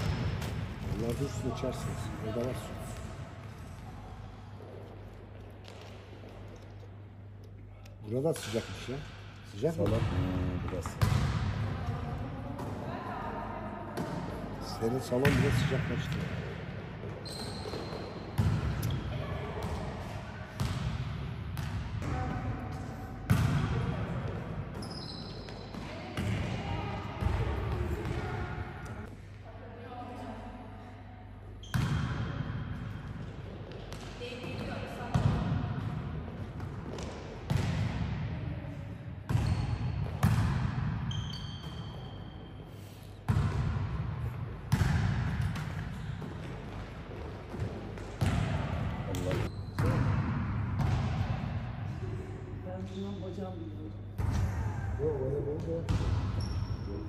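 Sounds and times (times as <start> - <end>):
sports hall background noise: 0.0 - 57.0.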